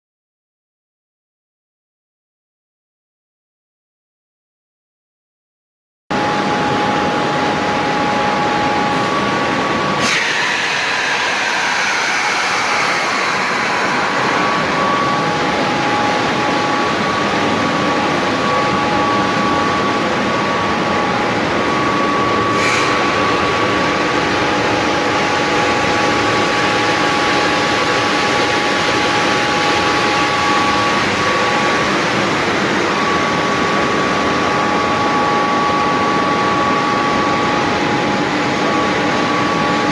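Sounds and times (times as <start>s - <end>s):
machine noise with whining tones: 6.1s - 39.9s.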